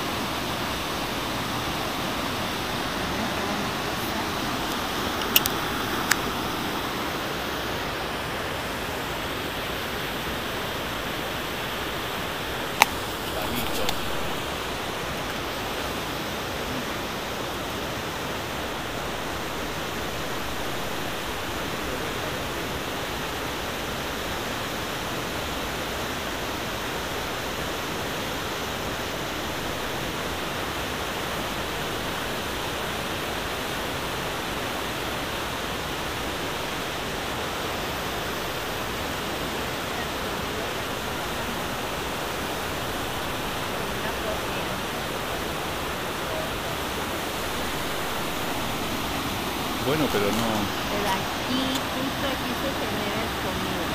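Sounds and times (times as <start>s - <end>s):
water roaring over rocks: 0.0s - 53.9s.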